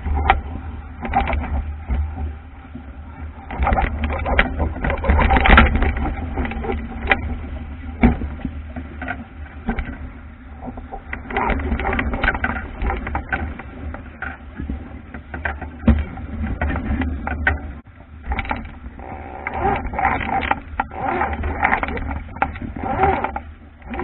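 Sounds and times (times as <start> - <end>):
water slapping against hull: 0.0 - 24.0
wind buffeting microphone: 0.0 - 24.0.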